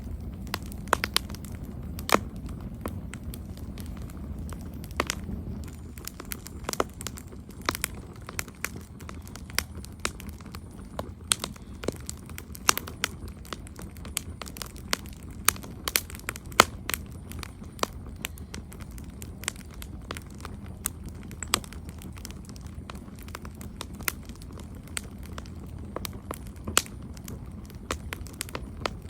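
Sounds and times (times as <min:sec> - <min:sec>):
campfire crackling and popping: 0:00.0 - 0:29.0
low rumble of flames: 0:00.0 - 0:29.0.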